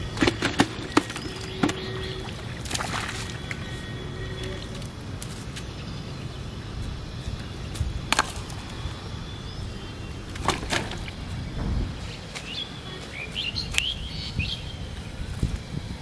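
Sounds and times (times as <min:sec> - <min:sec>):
birds chirping: 0:00.0 - 0:04.9, 0:05.5 - 0:15.5
low outdoor rumble: 0:00.0 - 0:16.0.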